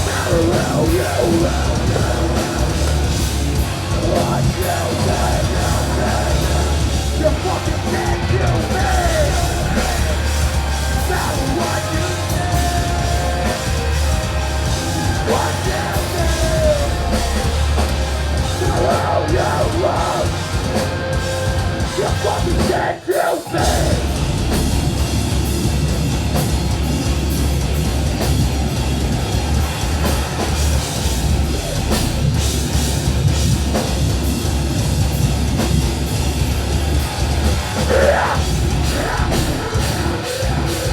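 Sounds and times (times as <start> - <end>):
heavy metal band playing: 0.0 - 40.9.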